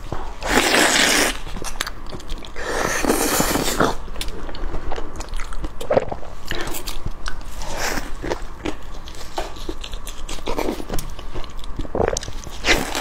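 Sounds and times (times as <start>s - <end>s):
biting and chewing: 0.4s - 13.0s.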